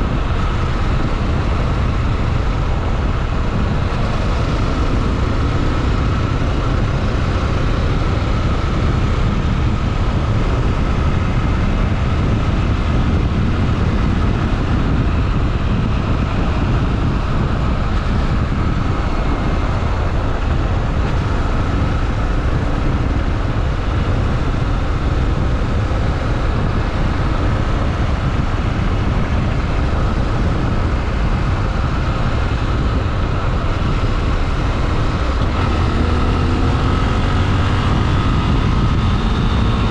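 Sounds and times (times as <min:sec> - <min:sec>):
heavy wind noise: 0:00.0 - 0:39.9
motorcycle engine running: 0:00.0 - 0:39.9
road noise: 0:00.0 - 0:39.9.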